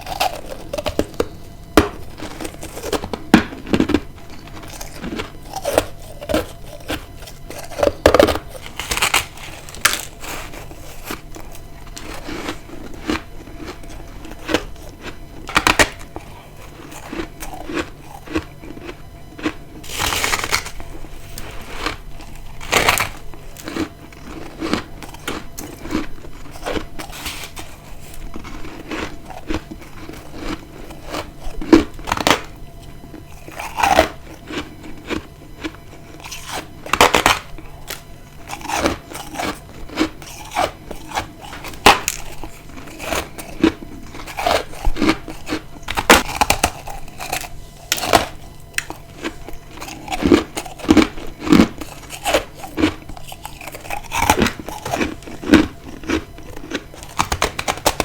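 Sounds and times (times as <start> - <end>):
chewing ice crunches: 0.0 - 58.0
faint steady hum: 0.0 - 58.0.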